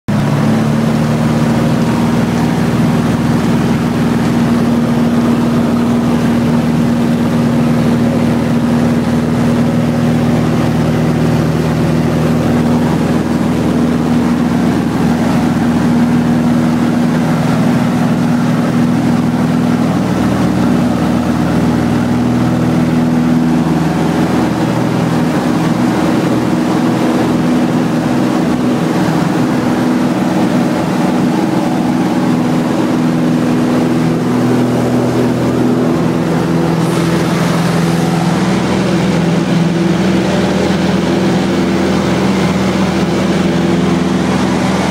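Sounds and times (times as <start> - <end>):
propeller plane engine running: 0.0 - 44.9
low rumble: 0.1 - 44.9.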